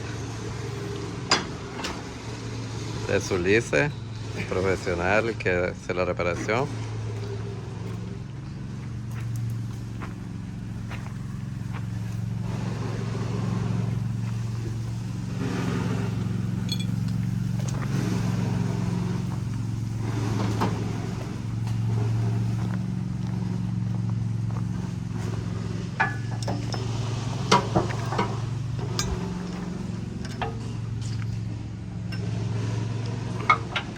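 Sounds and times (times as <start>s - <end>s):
machine humming: 0.0s - 33.9s.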